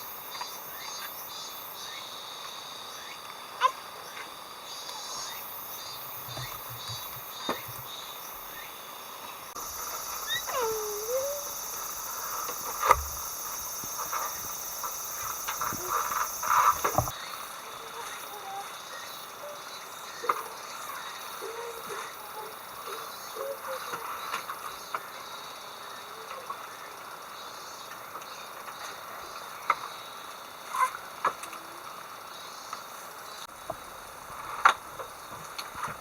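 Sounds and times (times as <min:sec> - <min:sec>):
insects chirping: 0:00.0 - 0:36.0
steady high hiss: 0:00.0 - 0:36.0.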